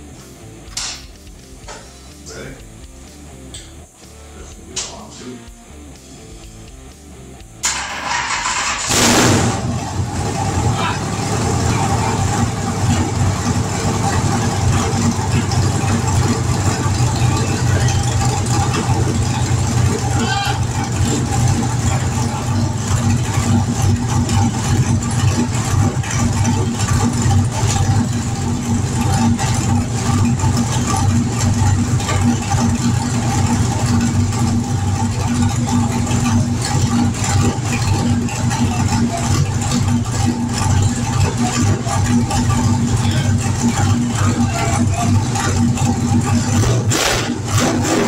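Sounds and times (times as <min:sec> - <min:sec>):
race car engine idling: 0:00.0 - 0:48.0.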